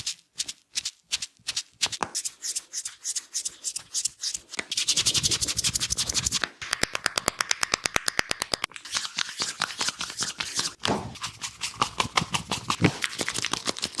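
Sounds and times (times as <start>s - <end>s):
hands rubbing hair: 1.2s - 7.2s, 8.8s - 14.0s.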